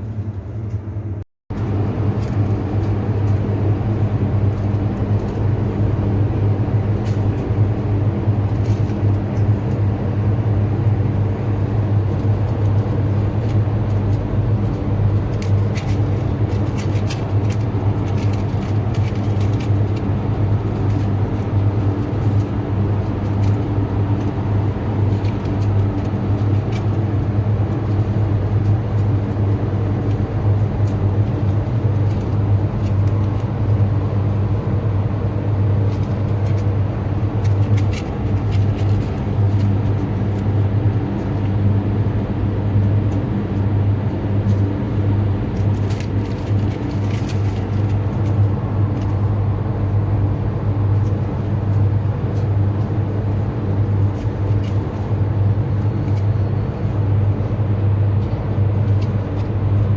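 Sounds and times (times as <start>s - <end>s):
loud low hum: 0.0s - 59.9s.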